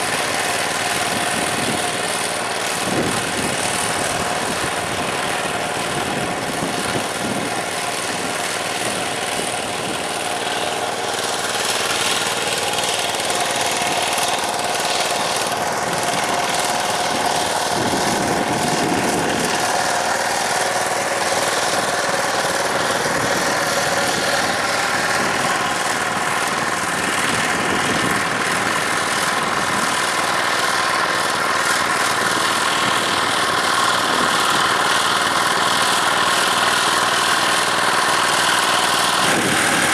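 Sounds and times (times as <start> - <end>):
diesel tractor engine running: 0.0 - 39.9
steady whine: 0.0 - 39.9.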